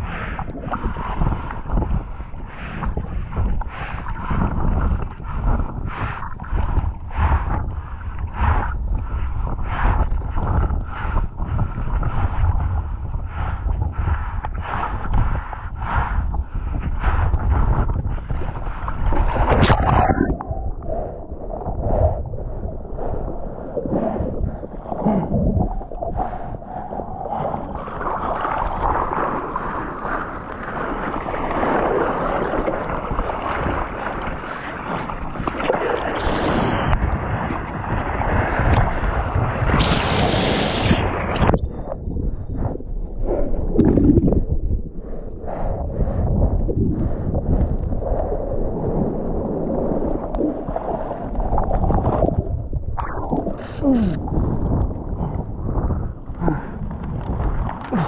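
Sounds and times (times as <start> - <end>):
gusty wind buffeting microphone: 0.0 - 58.0.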